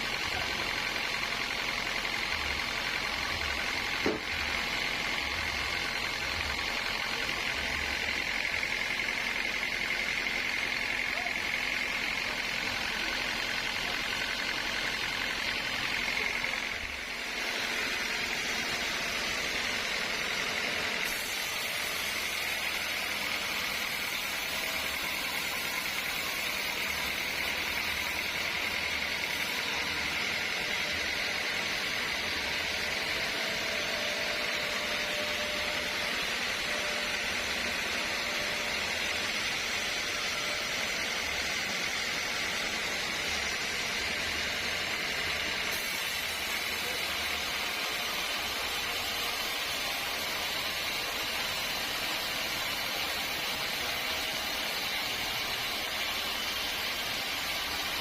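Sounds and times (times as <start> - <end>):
sawmill machinery hiss and hum: 0.0 - 58.0.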